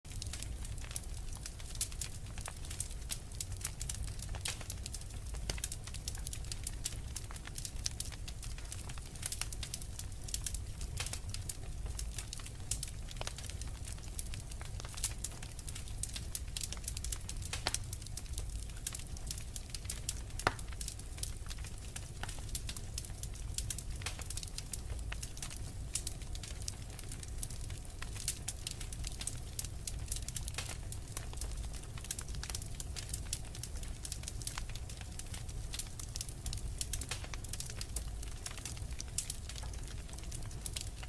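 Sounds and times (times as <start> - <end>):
wood fire crackling and popping: 0.1 - 41.0.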